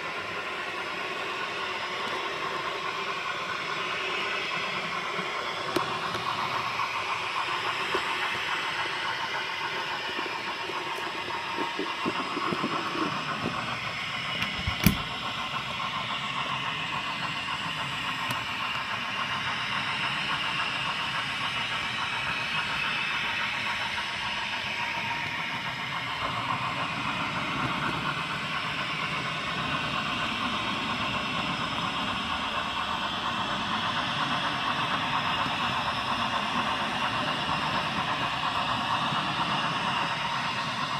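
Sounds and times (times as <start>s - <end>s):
model train whirring on track: 0.0s - 40.9s.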